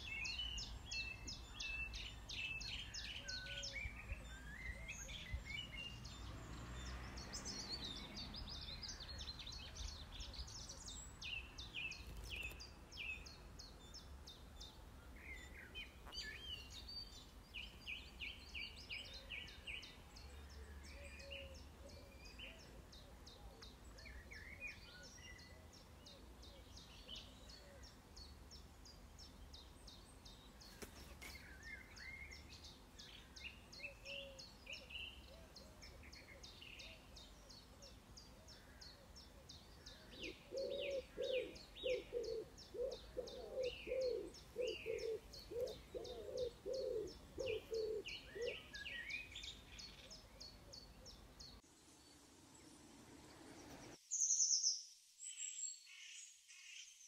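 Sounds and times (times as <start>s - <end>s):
songbirds chirping and singing: 0.0s - 51.6s.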